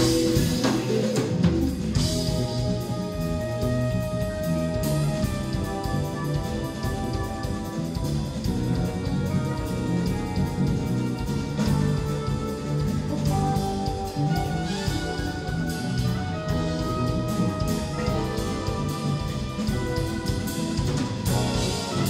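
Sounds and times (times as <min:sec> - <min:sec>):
drum kit: 0:00.0 - 0:22.0
electric bass: 0:00.0 - 0:22.0
electric guitar: 0:00.0 - 0:22.0
keyboards: 0:00.0 - 0:22.0
soprano saxophone melody: 0:02.0 - 0:22.0.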